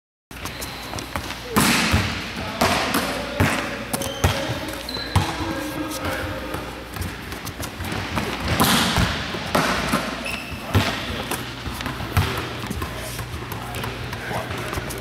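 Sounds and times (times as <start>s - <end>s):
balls bouncing on wooden floor: 0.4s - 15.0s.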